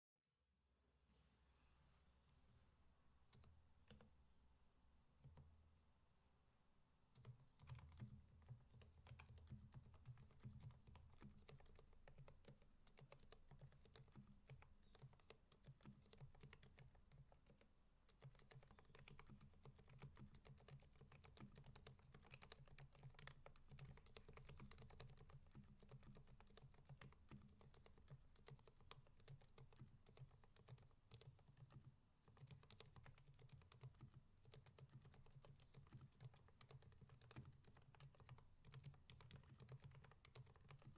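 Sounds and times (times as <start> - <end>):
soft keyboard typing: 3.2 - 4.2, 5.2 - 5.6, 7.1 - 40.9.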